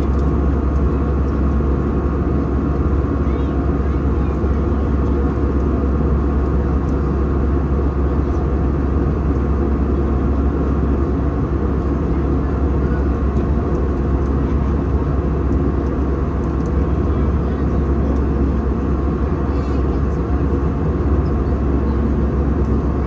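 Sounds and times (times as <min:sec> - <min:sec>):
airliner cabin roar: 0:00.0 - 0:23.0.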